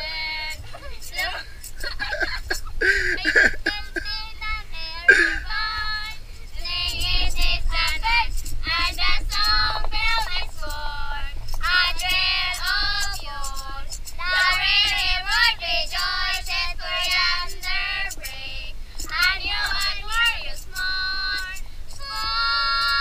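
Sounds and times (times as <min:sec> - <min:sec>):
children singing: 0:00.0 - 0:04.2, 0:04.8 - 0:23.0.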